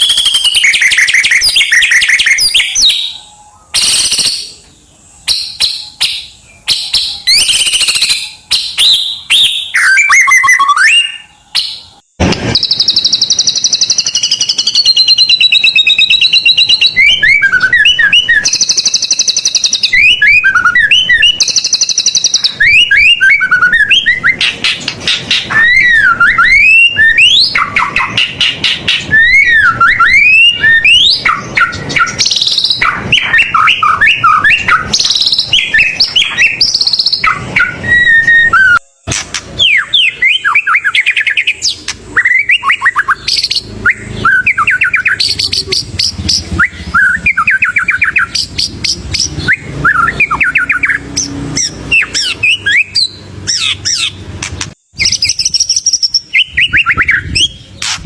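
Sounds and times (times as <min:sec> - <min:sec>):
songbird singing varied whistles: 0:00.0 - 0:58.0.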